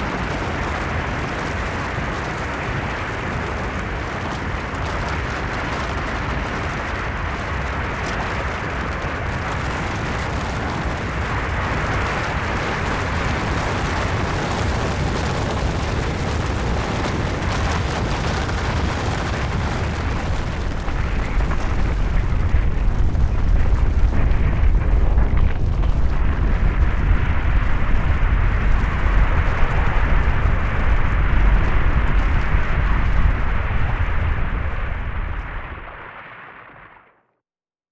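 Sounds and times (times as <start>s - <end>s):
deep rumble: 0.0s - 36.2s
rushing of sliding snow and rock: 0.0s - 36.9s.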